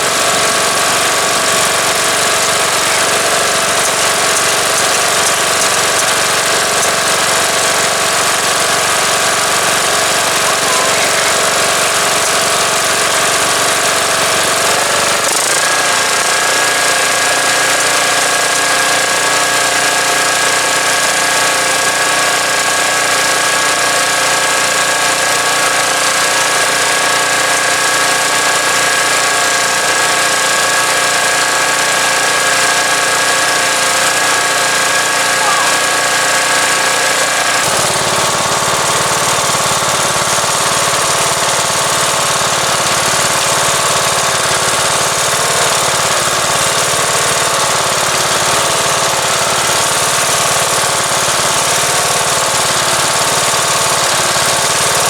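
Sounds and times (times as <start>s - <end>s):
lawn tractor engine running: 0.0s - 55.0s.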